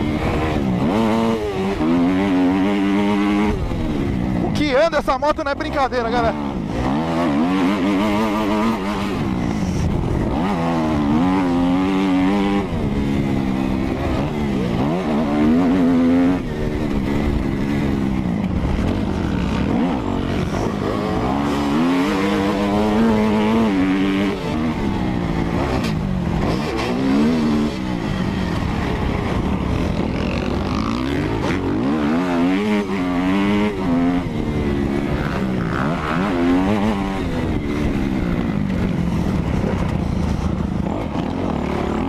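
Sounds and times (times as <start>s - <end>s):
motocross engine revving: 0.0s - 42.0s.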